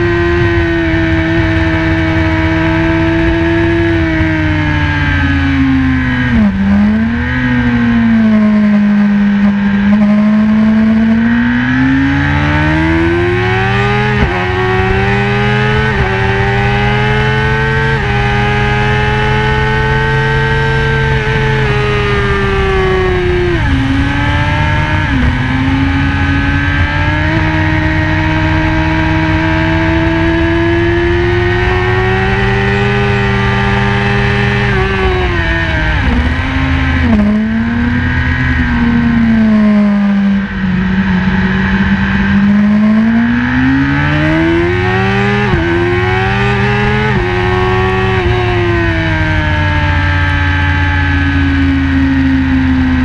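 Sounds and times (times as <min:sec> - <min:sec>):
motorcycle engine at high revs: 0:00.0 - 0:53.0.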